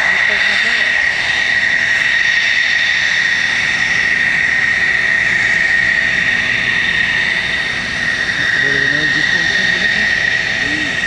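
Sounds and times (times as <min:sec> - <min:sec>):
jet engine running loudly: 0:00.0 - 0:11.0.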